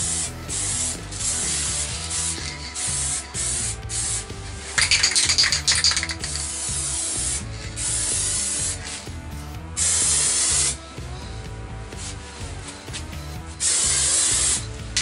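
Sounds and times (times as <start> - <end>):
paint spray hissing: 0.0 - 15.0.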